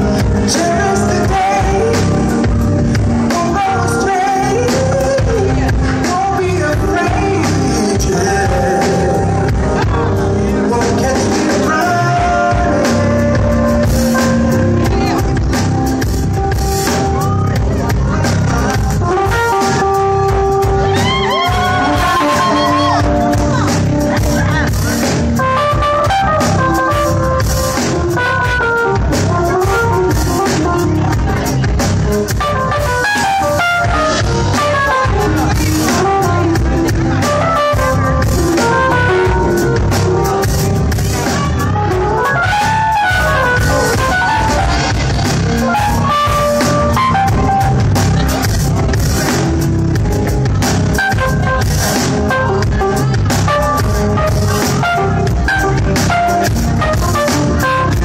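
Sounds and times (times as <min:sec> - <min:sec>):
drum kit: 0:00.0 - 0:58.0
electric keyboard melody: 0:00.0 - 0:58.0.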